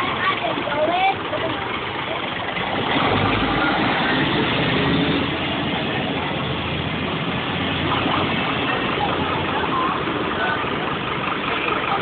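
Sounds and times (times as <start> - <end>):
truck diesel engine pulling away: 0.0 - 12.0.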